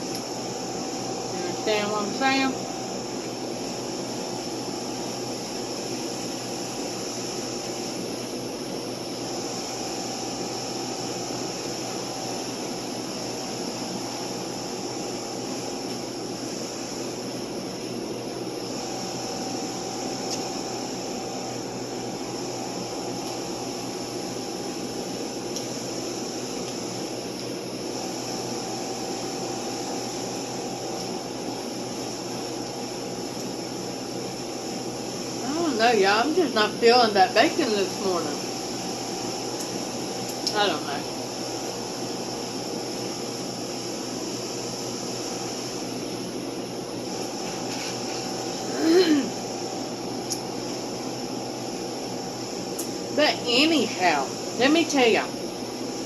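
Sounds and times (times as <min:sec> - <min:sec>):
faint high whine: 0:00.0 - 0:56.0
steady humming noise: 0:00.0 - 0:56.0.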